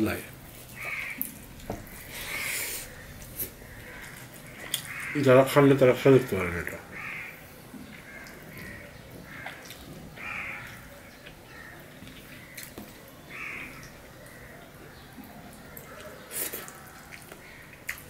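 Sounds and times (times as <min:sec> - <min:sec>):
harsh bird calls: 0:01.8 - 0:12.6, 0:13.2 - 0:17.8.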